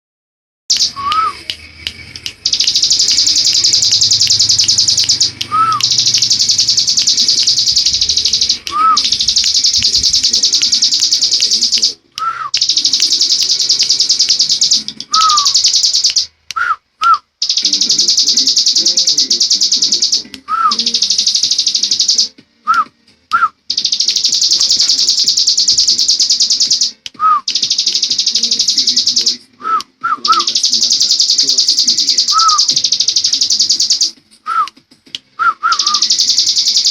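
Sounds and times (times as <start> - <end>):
bird chirps: 0.7 - 12.0, 12.6 - 16.3, 17.4 - 22.3, 23.7 - 29.4, 30.0 - 34.2, 35.6 - 36.9.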